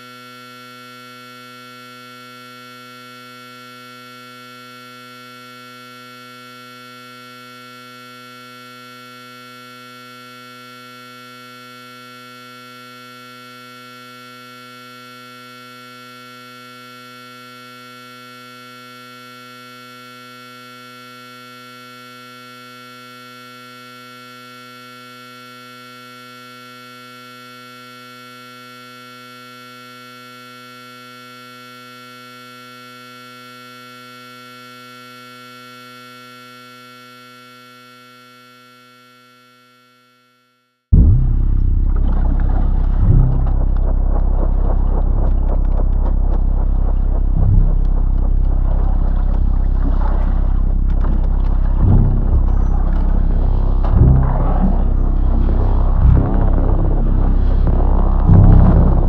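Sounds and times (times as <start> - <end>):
steady hum of held tones: 0.0 - 40.3, 41.0 - 59.0.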